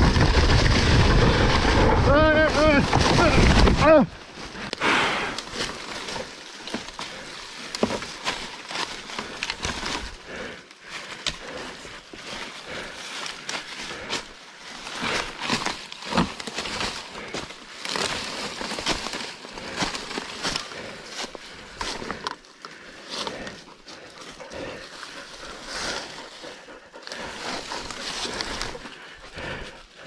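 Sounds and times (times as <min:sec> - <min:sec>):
bike tyres rolling on dirt: 0:00.0 - 0:30.0.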